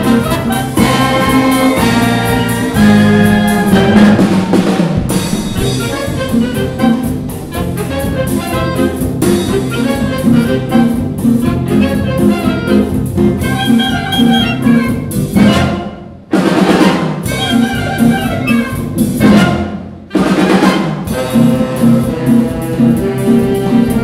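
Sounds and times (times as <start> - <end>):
wind band playing mambo: 0.0 - 24.0.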